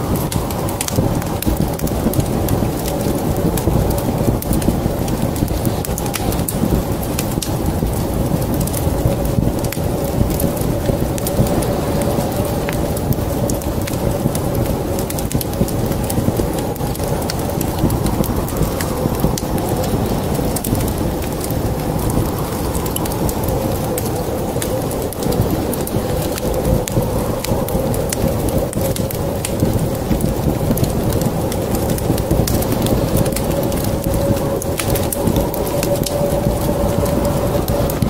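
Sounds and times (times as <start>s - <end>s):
heavy rain: 0.0s - 38.0s
wood fire crackling: 0.0s - 38.0s.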